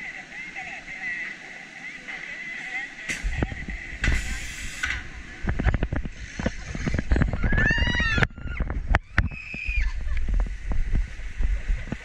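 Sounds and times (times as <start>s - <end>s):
rumble of water and wind: 0.0s - 12.0s.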